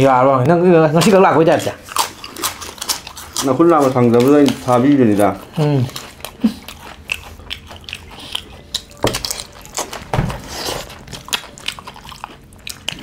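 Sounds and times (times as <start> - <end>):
fingers working food on plates: 0.5 - 13.0
chewing and mouth smacks: 0.9 - 13.0.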